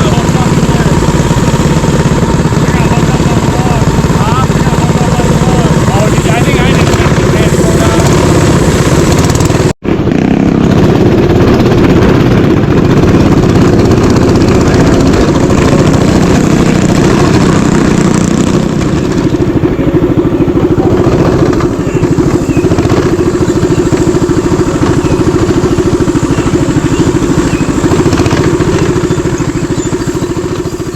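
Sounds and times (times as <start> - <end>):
mini bike engine running: 0.0 - 30.9.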